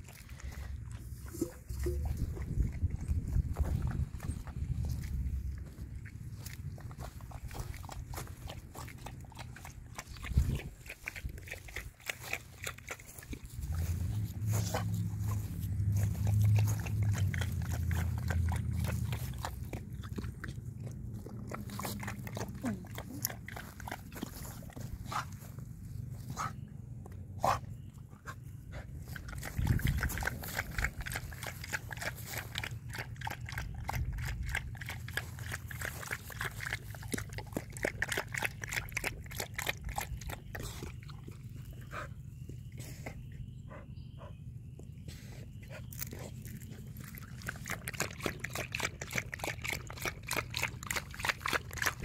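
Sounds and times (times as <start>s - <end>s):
dog lapping water from bowl: 0.0s - 25.5s, 28.7s - 42.2s, 45.7s - 52.0s.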